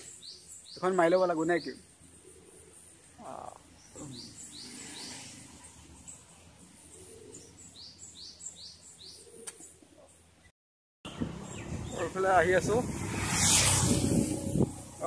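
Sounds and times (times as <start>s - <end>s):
bird chirping: 0.0s - 10.5s, 11.1s - 12.8s.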